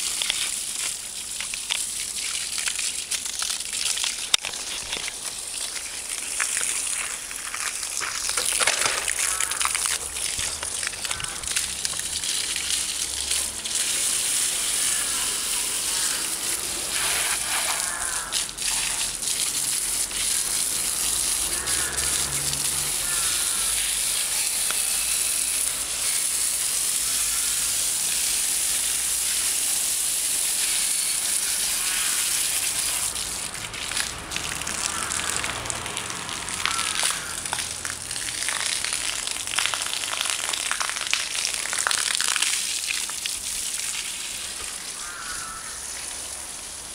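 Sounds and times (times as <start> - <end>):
hose spray splattering: 0.0 - 46.9.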